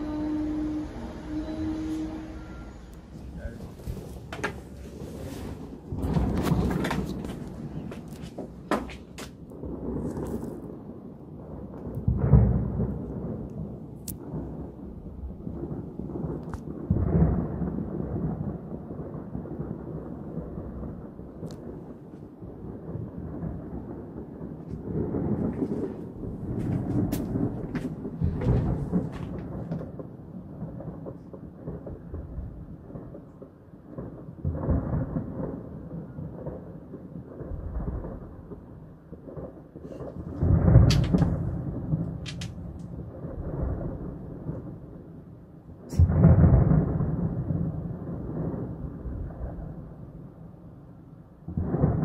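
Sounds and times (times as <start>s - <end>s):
thunder crackles: 0.0s - 52.0s
thunder rumbling: 0.0s - 52.0s.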